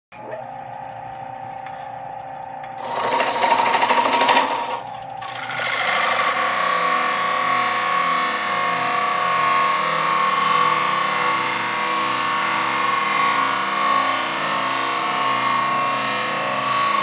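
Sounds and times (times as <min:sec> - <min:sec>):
wood lathe humming: 0:01.2 - 0:17.0
turning tool cutting wood: 0:02.8 - 0:17.0.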